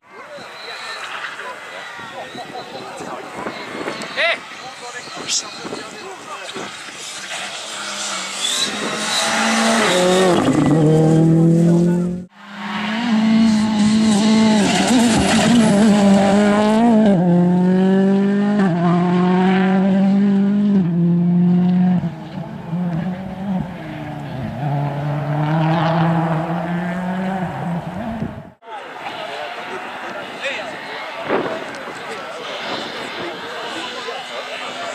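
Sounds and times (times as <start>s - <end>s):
rally car engine at full throttle: 0.0s - 34.9s.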